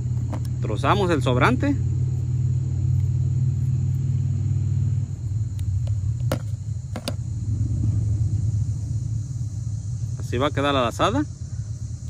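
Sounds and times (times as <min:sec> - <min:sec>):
low rumble: 0:01.8 - 0:12.0.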